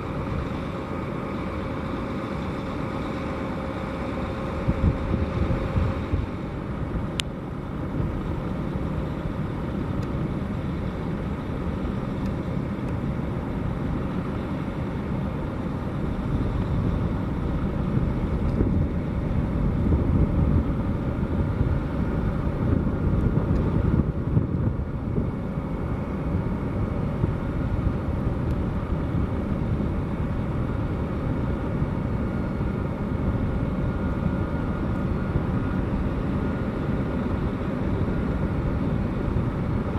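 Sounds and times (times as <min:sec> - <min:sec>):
faint jet whine: 0:00.0 - 0:39.9
jet engines running: 0:00.0 - 0:39.9.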